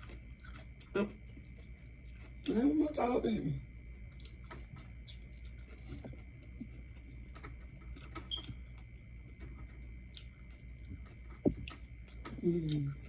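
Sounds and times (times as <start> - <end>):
faint high-pitched hum: 0.0 - 13.0.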